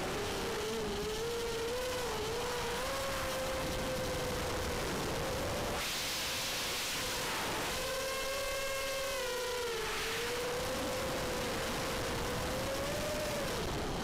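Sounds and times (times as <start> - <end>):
quadcopter motors whining: 0.0 - 14.0
wind noise: 0.0 - 14.0.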